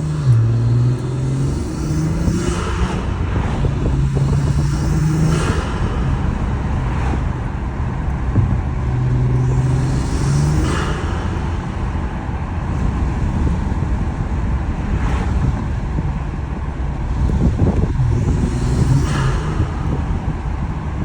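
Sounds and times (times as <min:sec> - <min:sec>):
car engine drone: 0:00.0 - 0:21.0
road rumble: 0:00.0 - 0:21.0.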